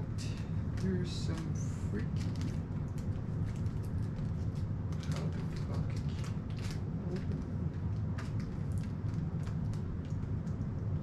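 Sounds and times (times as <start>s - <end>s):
low room hum: 0.0s - 11.0s
food clicks and crinkles: 0.2s - 11.0s.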